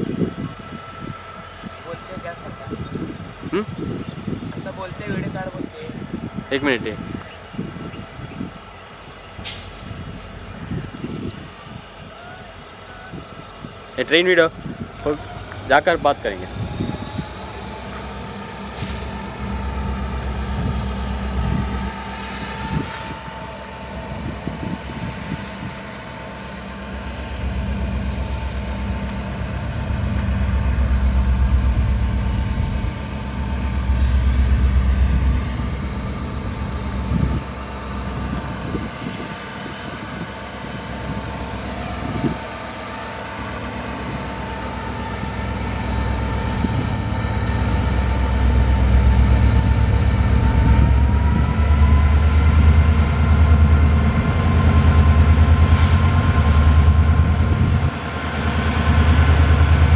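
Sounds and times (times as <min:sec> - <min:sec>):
diesel locomotive engine throb: 0:00.0 - 0:59.9
steady whine rising in pitch: 0:00.0 - 0:59.9.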